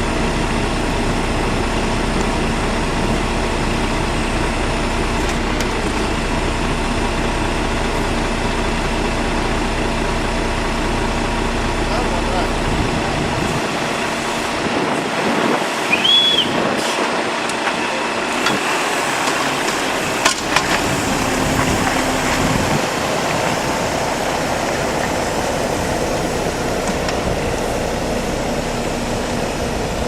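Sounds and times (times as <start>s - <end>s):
road-work vehicle engines running: 0.0s - 30.0s.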